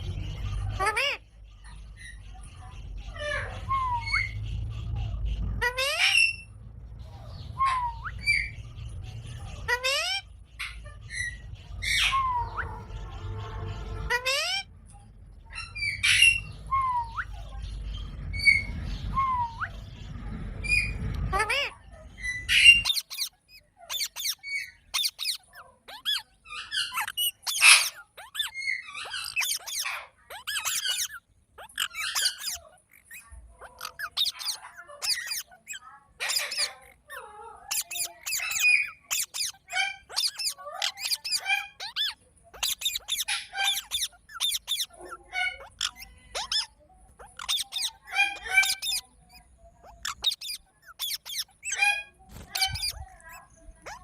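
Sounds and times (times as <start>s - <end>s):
parrot chirping and squawking: 0.0s - 54.0s.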